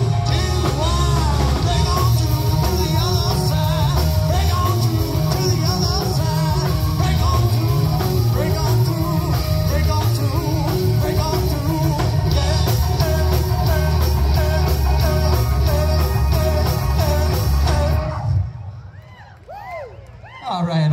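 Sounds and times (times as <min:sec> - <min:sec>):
gliding lead guitar line: 0:00.0 - 0:18.4
rock band playing: 0:00.0 - 0:18.8.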